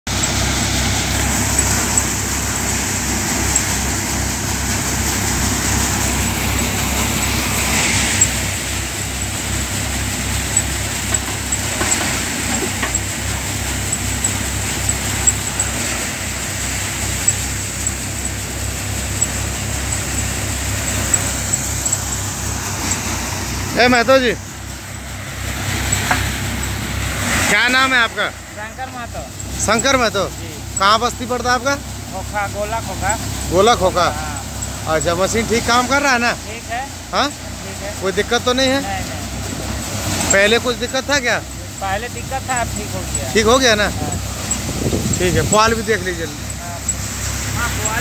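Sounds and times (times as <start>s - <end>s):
rushing rattle of grain and straw: 0.1s - 48.0s
thresher engine hum: 0.1s - 48.0s.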